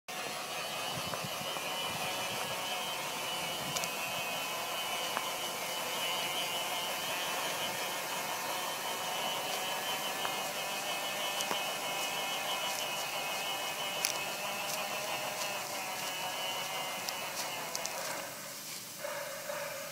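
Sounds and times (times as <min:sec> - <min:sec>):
model train whirring hiss: 0:00.1 - 0:19.9.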